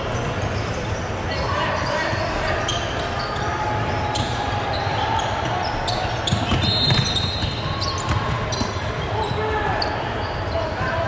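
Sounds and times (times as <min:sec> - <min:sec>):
crowd and player voices: 0:00.0 - 0:11.0
sneakers squeaking on floor: 0:00.0 - 0:11.0.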